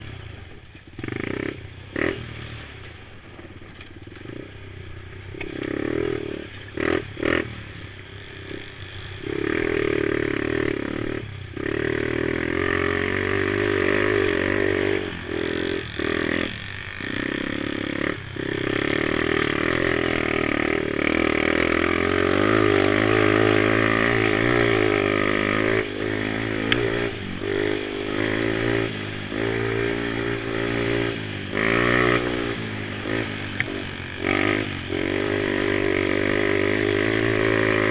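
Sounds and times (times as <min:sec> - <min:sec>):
quad engine revving: 0:01.0 - 0:02.8, 0:04.2 - 0:37.9.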